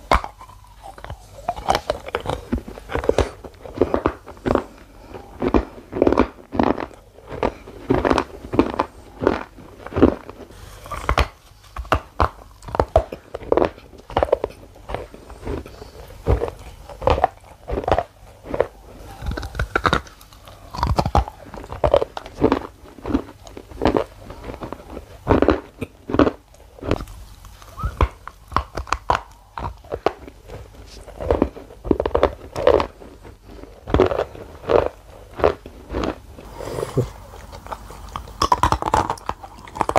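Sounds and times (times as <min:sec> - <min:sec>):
crunching and chewing: 0:00.0 - 0:39.9.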